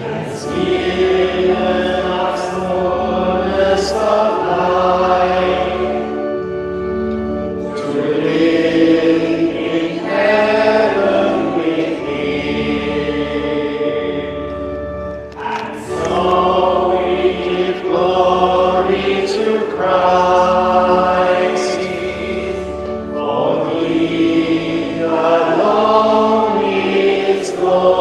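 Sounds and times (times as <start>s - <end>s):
choir singing a hymn: 0.0s - 28.0s
sustained accompaniment: 0.0s - 28.0s.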